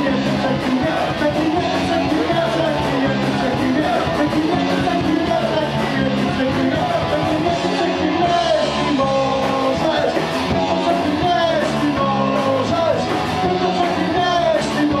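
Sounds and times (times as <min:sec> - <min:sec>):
electric guitar: 0:00.0 - 0:15.0
live rock band: 0:00.0 - 0:15.0
person singing: 0:00.0 - 0:15.0.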